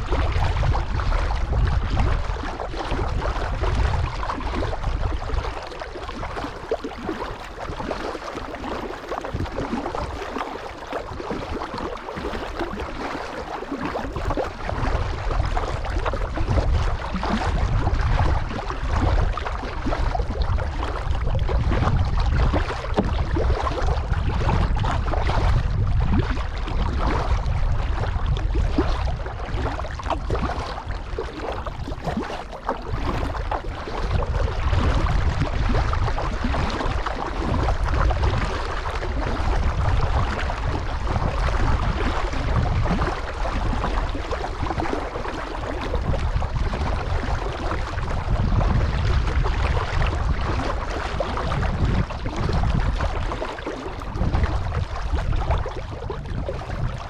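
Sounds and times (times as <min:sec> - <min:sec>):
paddle splashing water: 0:00.0 - 0:57.0
wind rumble on microphone: 0:00.0 - 0:57.0.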